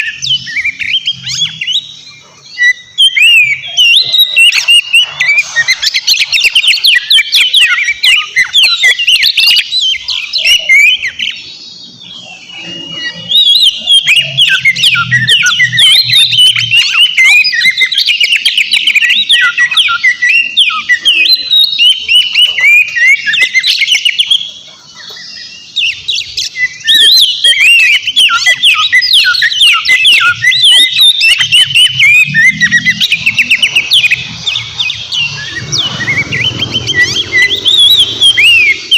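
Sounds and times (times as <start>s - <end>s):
bird song whistled notes: 0.0s - 38.9s.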